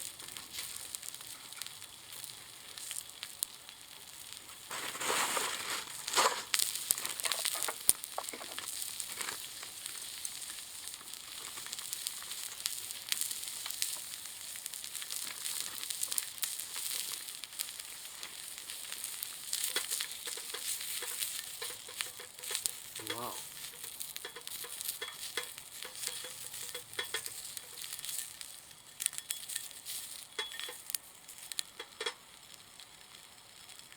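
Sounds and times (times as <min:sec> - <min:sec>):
wood stove sizzling and crackling: 0:00.0 - 0:33.9.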